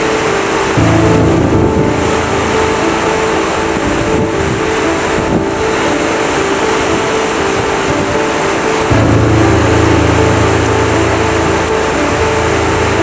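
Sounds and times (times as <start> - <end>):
boat engine humming: 0.0 - 13.0
surf: 0.0 - 13.0
wind on microphone: 0.0 - 13.0.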